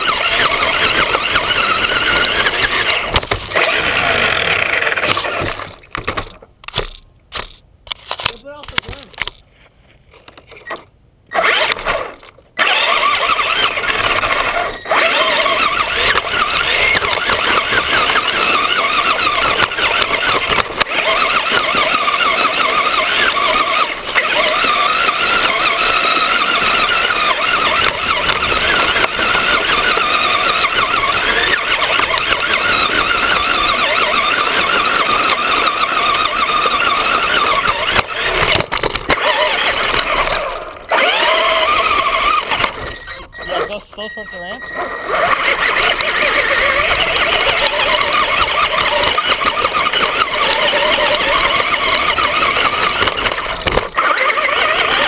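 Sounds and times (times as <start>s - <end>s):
rc car motor whining: 0.0s - 6.0s, 10.6s - 55.0s.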